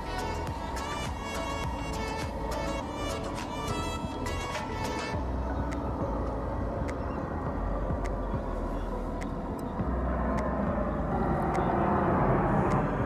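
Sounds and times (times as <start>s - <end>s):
jet airliner engine rumble: 0.0s - 13.0s.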